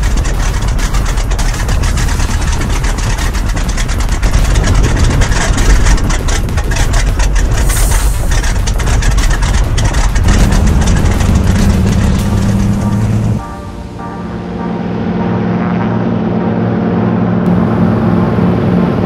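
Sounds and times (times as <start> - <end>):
exhaust pulses crackling: 0.0 - 19.0
radial aircraft engine rumbling: 0.0 - 19.0.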